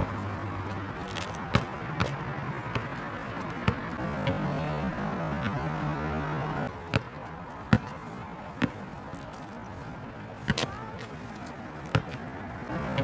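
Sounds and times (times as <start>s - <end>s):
basketball bouncing on asphalt: 0.0s - 9.4s, 10.4s - 10.8s, 11.4s - 13.0s.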